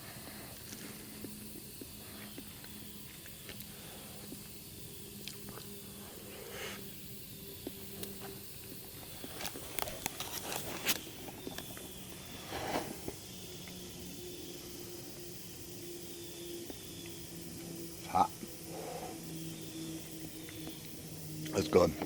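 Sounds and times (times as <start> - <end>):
campfire crackles: 0.0 - 22.0
campfire hissing: 0.0 - 22.0.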